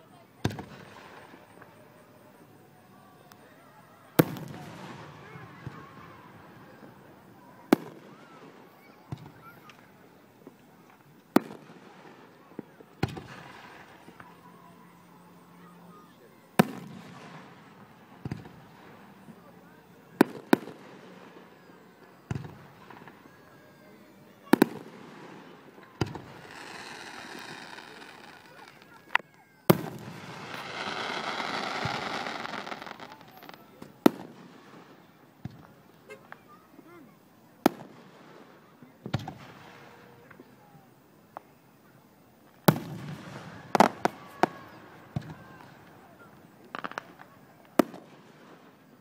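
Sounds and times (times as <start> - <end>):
fireworks bangs: 0.1 - 2.4, 3.2 - 15.0, 15.6 - 36.6, 37.6 - 40.8, 42.4 - 49.0.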